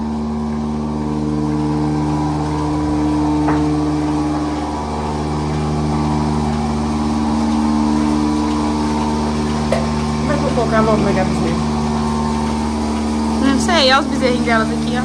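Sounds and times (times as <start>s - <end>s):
vacuum pump humming: 0.0s - 15.0s.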